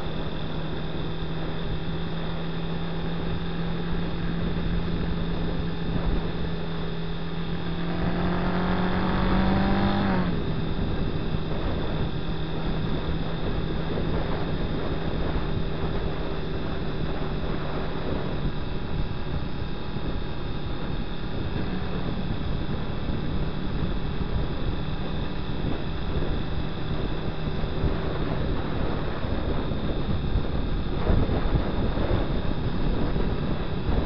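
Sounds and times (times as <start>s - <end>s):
motorcycle engine cruising: 0.0s - 34.0s
wind and road noise: 0.0s - 34.0s.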